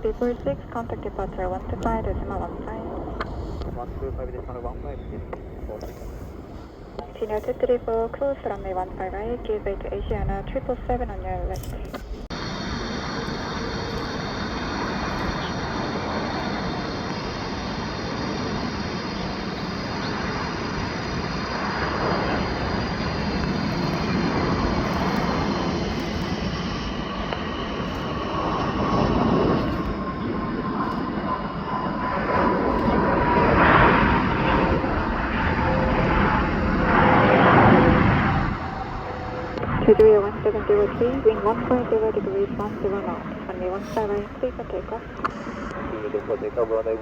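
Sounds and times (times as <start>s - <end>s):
jet engines roaring with whine: 0.0s - 47.0s.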